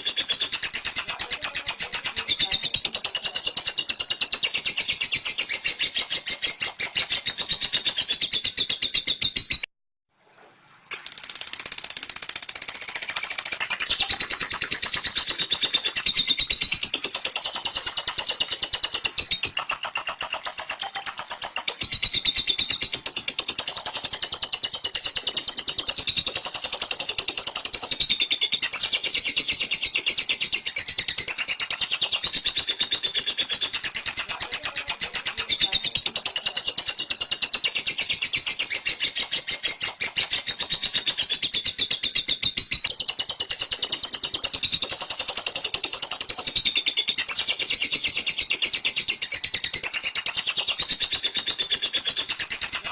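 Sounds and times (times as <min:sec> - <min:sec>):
lovebird chattering trill: 0:00.0 - 0:09.6, 0:10.9 - 0:52.9.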